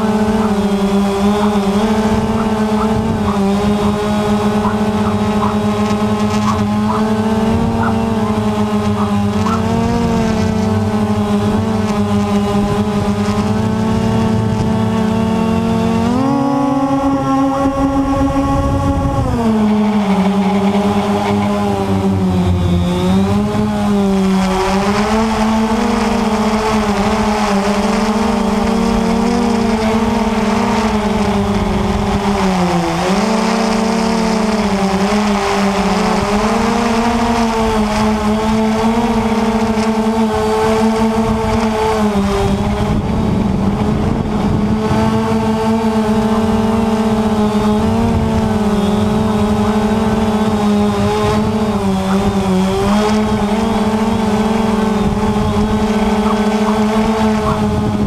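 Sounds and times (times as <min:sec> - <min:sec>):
quadcopter propellers buzzing: 0:00.0 - 0:58.0
wind rushing over microphone: 0:00.0 - 0:58.0.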